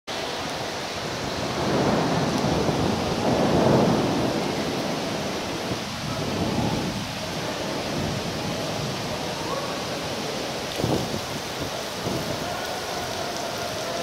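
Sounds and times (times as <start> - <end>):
rainwater pouring: 0.1 - 14.0.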